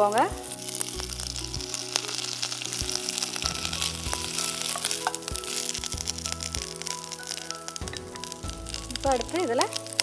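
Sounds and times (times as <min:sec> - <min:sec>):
leaves and garlic sizzling in oil: 0:00.0 - 0:10.0.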